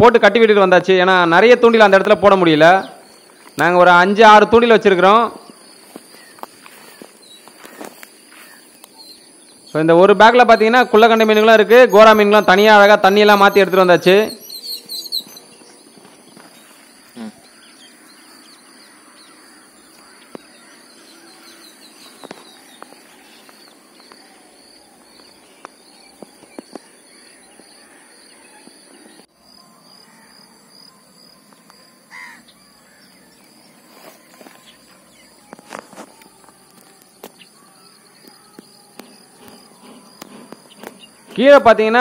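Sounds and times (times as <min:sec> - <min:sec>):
high insect drone: 0:01.4 - 0:42.0.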